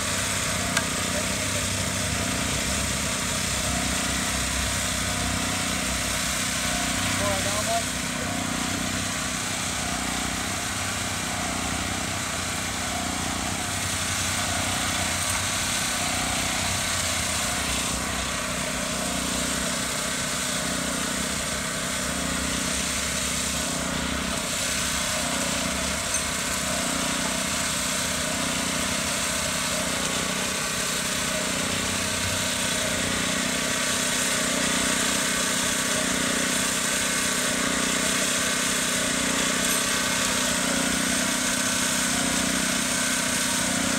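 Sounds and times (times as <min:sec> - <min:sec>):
small engine running steadily: 0:00.0 - 0:43.9.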